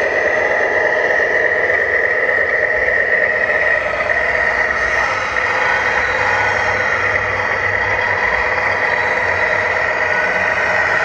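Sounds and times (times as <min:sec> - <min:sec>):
low rumble: 0:00.0 - 0:11.0
radio-controlled truck whine: 0:00.0 - 0:11.0.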